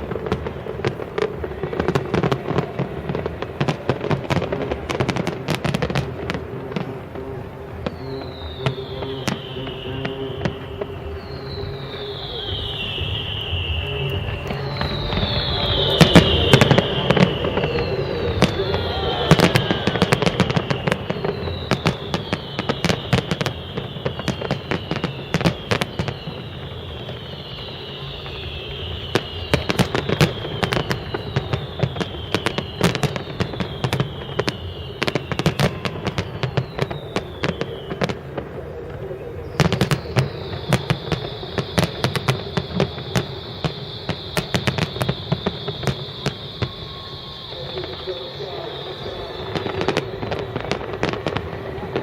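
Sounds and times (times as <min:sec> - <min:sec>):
falling firework whistles: 0:00.0 - 0:52.0
firework bangs and crackling: 0:00.0 - 0:52.0
steady high whistle: 0:00.0 - 0:52.0.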